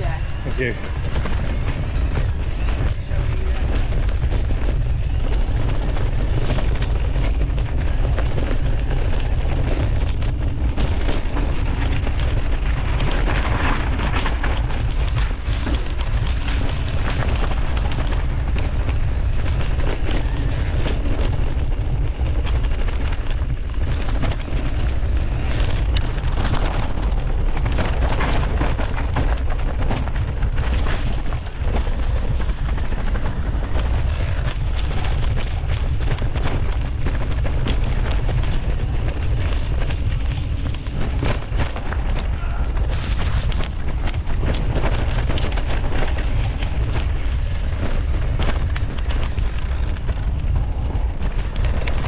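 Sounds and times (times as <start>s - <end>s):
bike clicking and rattling: 0.0s - 52.0s
bike tyre noise: 0.0s - 52.0s
wind buffeting microphone: 0.0s - 52.0s.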